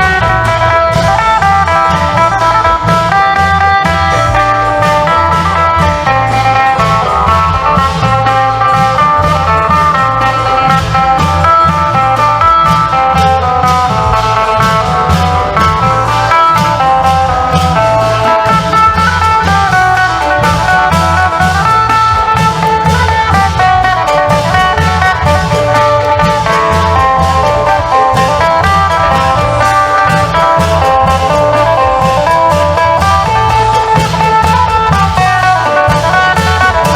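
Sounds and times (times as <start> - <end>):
long drums and percussion: 0.0 - 36.9
lute playing fast melody: 0.0 - 36.9.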